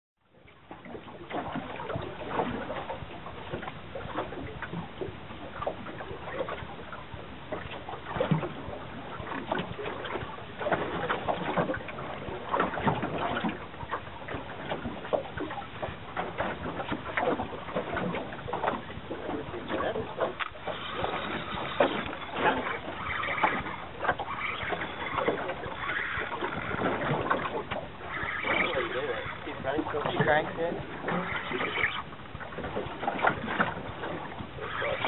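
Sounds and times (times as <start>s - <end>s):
water sloshing against boat hull: 0.2s - 35.0s.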